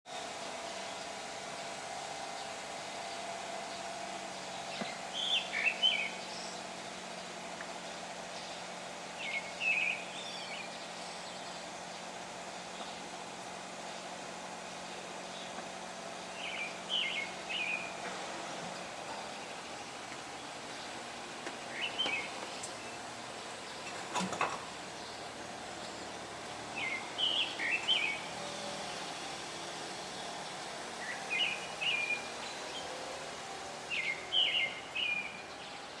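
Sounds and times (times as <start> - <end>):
steady background hum: 0.2 - 36.0.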